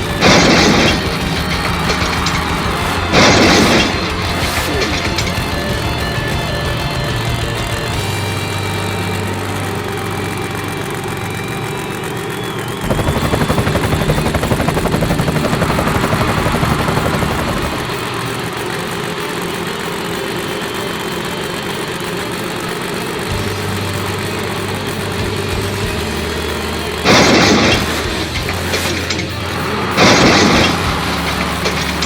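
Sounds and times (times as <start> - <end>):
monster truck engine revving: 0.0 - 19.6, 22.0 - 32.0.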